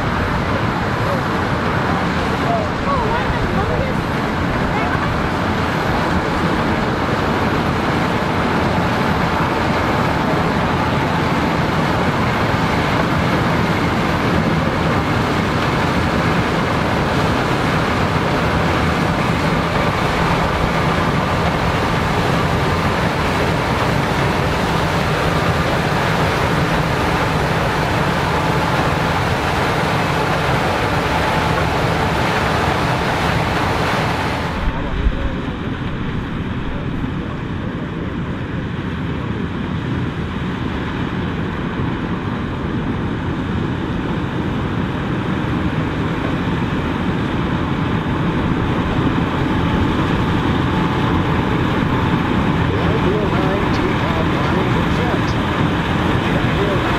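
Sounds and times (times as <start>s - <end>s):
combine harvester running: 0.0s - 56.9s
faint steady whine: 0.0s - 56.9s.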